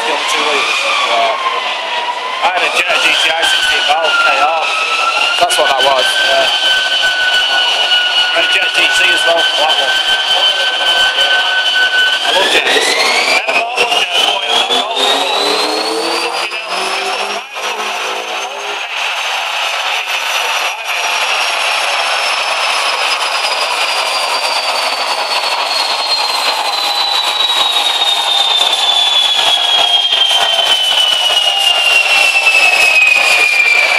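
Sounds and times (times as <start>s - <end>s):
car engine under full load: 0.0s - 33.9s
high whine of tyres and rollers: 0.0s - 33.9s.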